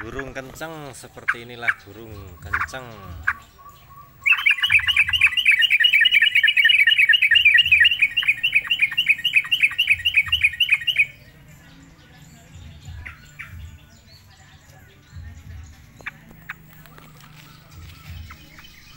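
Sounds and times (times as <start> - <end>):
bird chattering song: 0.0 - 18.9.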